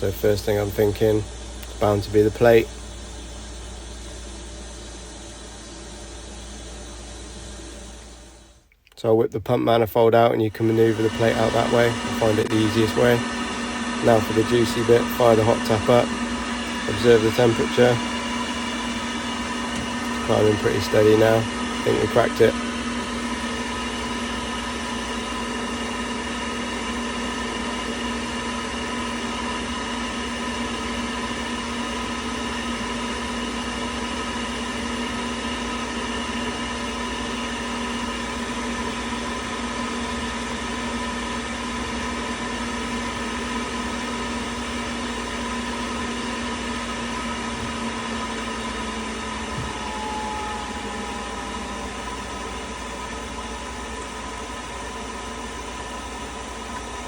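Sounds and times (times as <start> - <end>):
boiler humming: 0.0 - 57.0.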